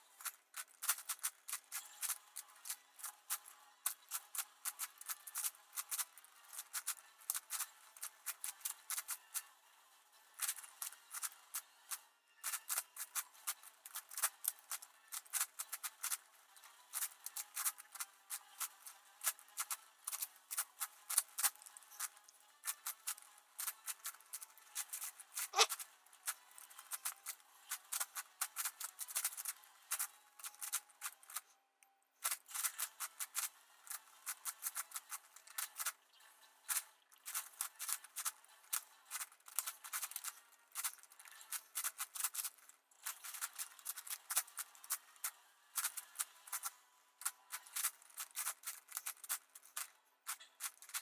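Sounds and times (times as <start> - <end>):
puzzle cube clicking: 0.2 - 9.4, 12.4 - 16.3, 16.9 - 31.4, 32.2 - 35.9, 36.7 - 45.0, 45.8 - 51.0.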